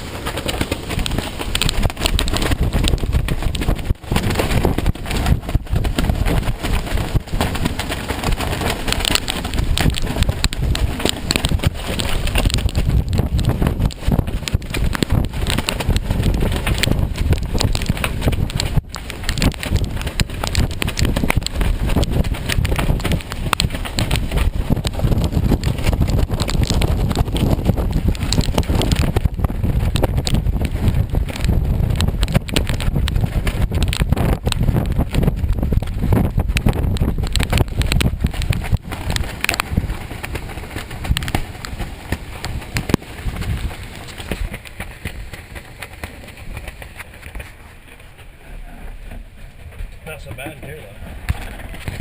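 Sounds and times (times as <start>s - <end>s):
gusty wind buffeting microphone: 0.0s - 52.0s
sharp knocks and rattles: 0.0s - 52.0s.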